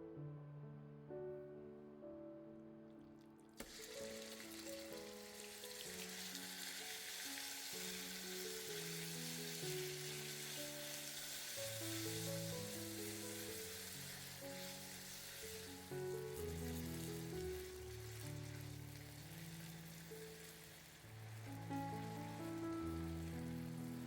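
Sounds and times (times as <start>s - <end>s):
soft background music: 0.0s - 24.0s
food sizzling in a frying pan: 3.6s - 24.0s.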